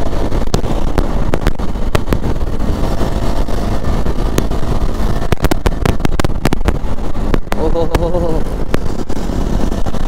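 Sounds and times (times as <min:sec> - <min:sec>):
motorcycle engine rumble: 0:00.0 - 0:10.0
wind buffeting crackles: 0:00.0 - 0:10.0
wind rush on microphone: 0:00.0 - 0:10.0.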